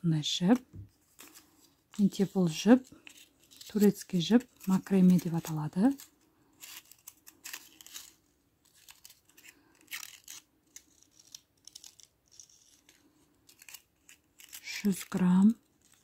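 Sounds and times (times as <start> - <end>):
cord rustling and crinkling: 0.4 - 16.0.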